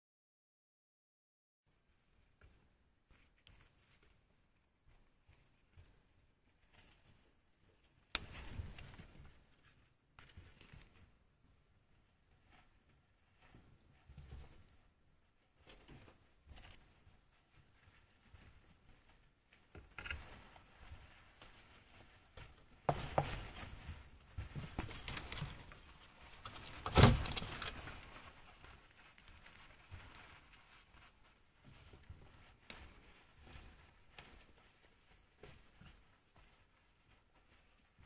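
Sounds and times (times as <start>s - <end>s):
rodents rustling paper and hay: 1.9s - 38.0s.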